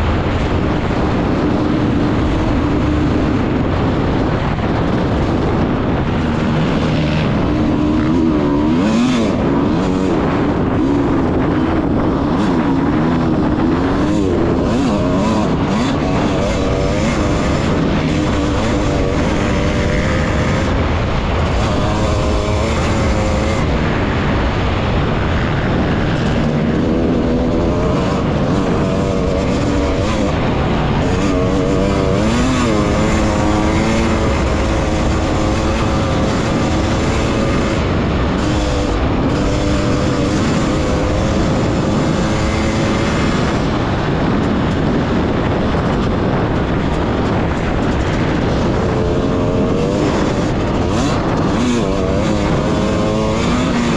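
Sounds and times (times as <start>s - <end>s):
racing engines revving: 0.0s - 53.9s
steady rumble: 0.0s - 53.9s.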